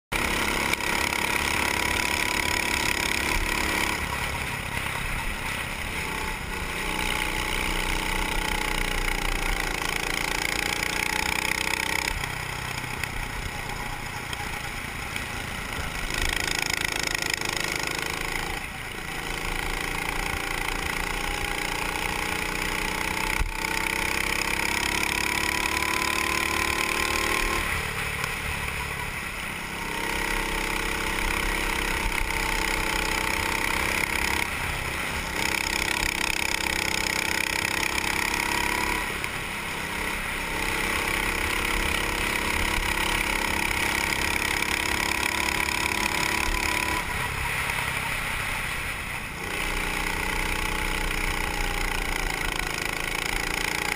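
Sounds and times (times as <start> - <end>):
kart engine revving: 0.1 - 53.9.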